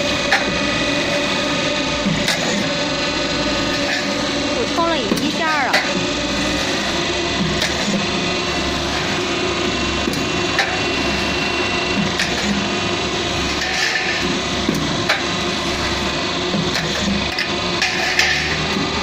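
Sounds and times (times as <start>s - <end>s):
roll forming machine running: 0.0s - 19.0s.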